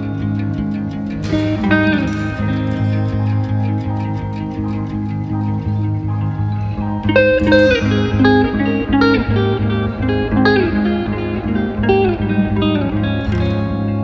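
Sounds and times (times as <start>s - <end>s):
plucked guitar melody: 0.0s - 14.0s
sustained low bass: 0.0s - 14.0s.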